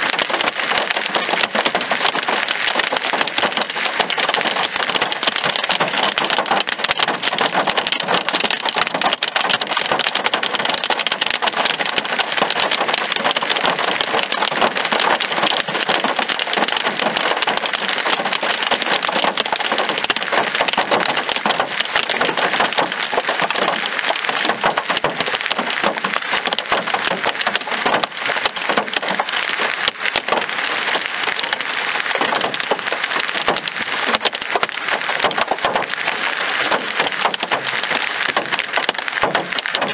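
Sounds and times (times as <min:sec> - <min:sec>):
hail clattering: 0:00.0 - 0:39.9
rain rushing: 0:00.0 - 0:39.9.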